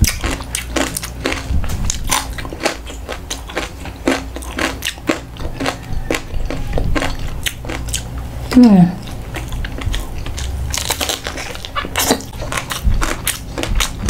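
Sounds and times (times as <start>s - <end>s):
crunching and chewing crispy food: 0.0s - 14.0s.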